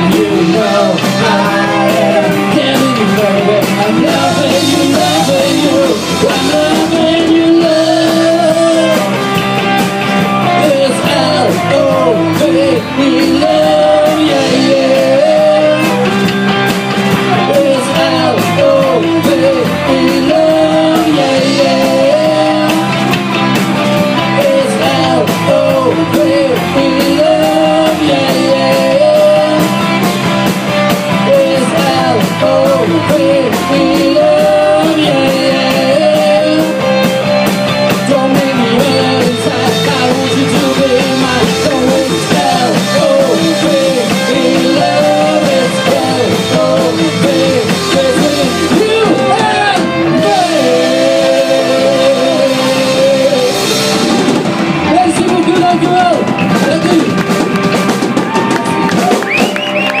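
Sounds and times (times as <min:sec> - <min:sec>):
bending guitar lead line: 0:00.0 - 1:00.0
rock band playing: 0:00.0 - 1:00.0.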